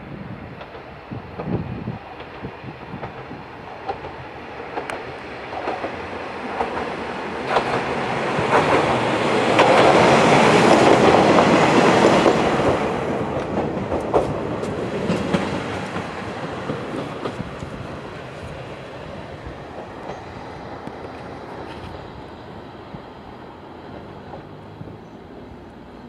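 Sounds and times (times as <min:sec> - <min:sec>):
diesel railcar passing: 0:00.0 - 0:26.0
wheels clicking over rail joints: 0:00.6 - 0:22.0.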